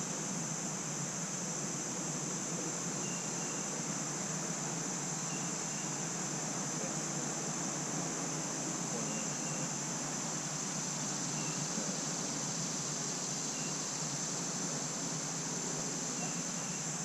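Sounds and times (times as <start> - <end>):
crickets chorus: 0.0 - 17.0
soft hiss: 0.0 - 17.0.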